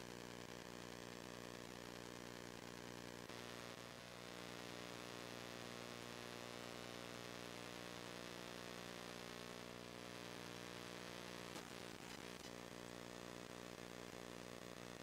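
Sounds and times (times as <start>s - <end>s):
faint motorized burr whine: 0.0s - 15.0s.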